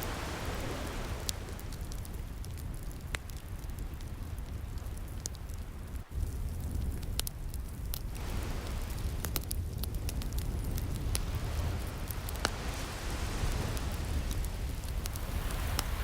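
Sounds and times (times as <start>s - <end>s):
ocean waves washing in: 0.0s - 6.4s, 8.0s - 16.0s
wood fire crackling: 0.0s - 16.0s.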